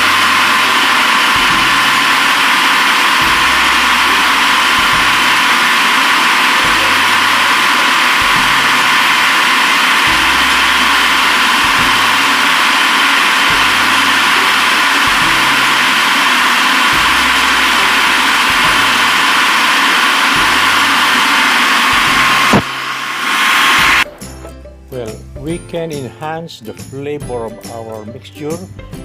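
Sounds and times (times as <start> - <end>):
food processor motor running: 0.0 - 24.1.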